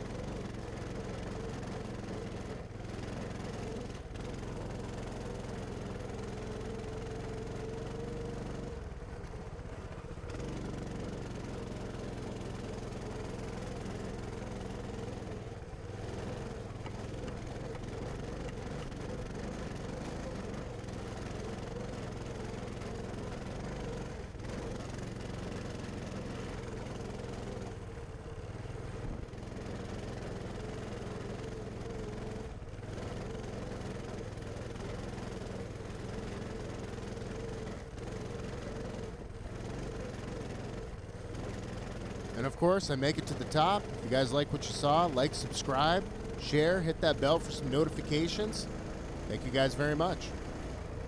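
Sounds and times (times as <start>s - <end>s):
mini bike engine running: 0.0s - 51.0s.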